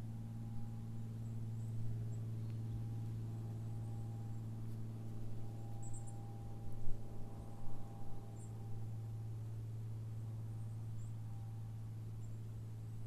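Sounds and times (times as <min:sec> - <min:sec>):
distant small airplane droning: 0:00.0 - 0:13.0.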